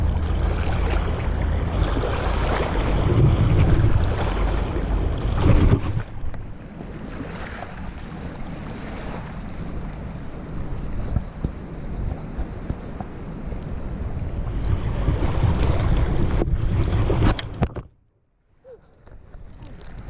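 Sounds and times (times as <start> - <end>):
wind buffeting microphone: 0.0 - 17.8
boat noise: 0.0 - 17.9.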